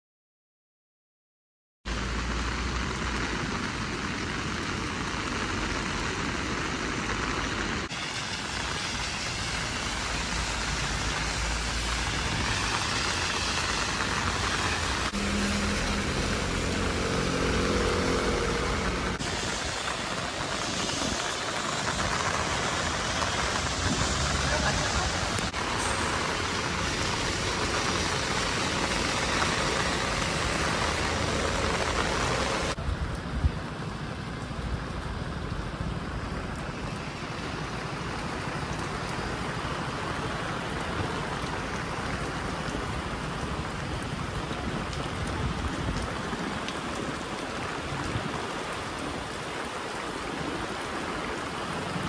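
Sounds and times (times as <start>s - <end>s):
heavy rain on a street: 1.9s - 52.0s
tyres hissing on wet road: 1.9s - 52.0s.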